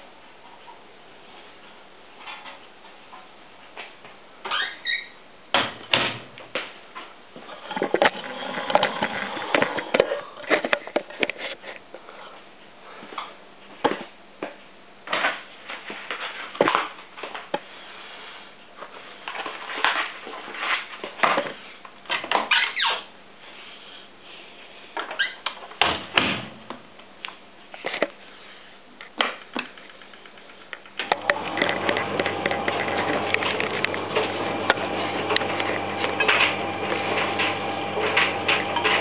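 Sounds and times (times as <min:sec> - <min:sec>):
faint dryer hum: 0:00.0 - 0:39.0.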